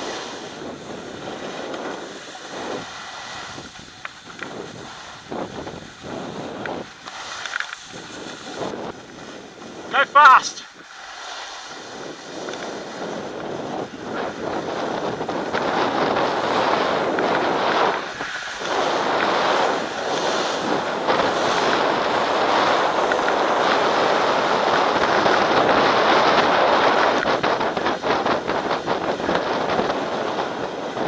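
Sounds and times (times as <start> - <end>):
wind buffeting microphone: 0.0 - 10.0, 11.5 - 31.0
snowboard scraping over snow: 0.0 - 31.0.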